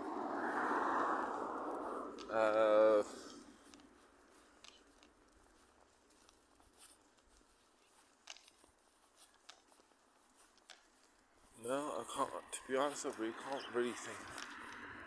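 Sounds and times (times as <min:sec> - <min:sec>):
faint clicks and rustles: 0:00.1 - 0:15.0.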